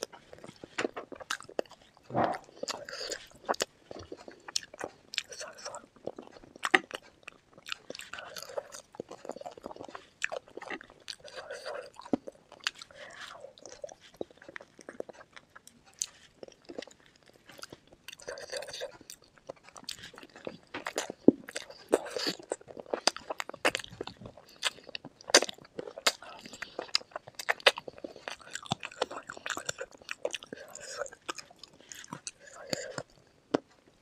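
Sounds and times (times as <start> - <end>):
chewing and crunching: 0.0 - 34.0.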